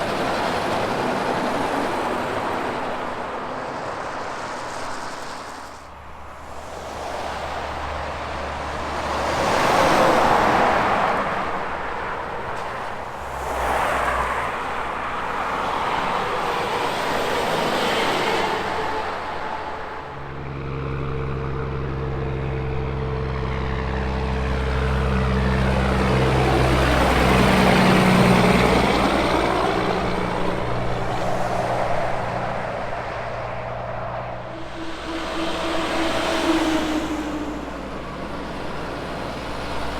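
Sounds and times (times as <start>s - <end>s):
highway traffic tyre noise: 0.0s - 39.9s
truck diesel engine passing: 0.0s - 39.9s.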